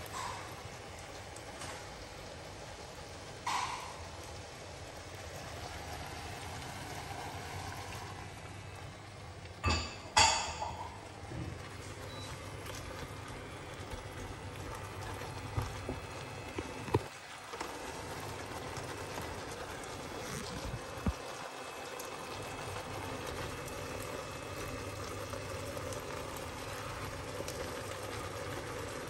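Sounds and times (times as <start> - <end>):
prawns sizzling in a pan: 0.0 - 29.0.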